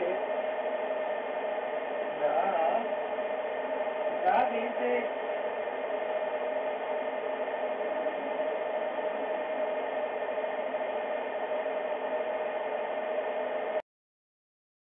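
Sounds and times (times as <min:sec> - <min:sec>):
mid-pitched hum: 0:00.0 - 0:13.8
static-like hiss: 0:00.0 - 0:13.8.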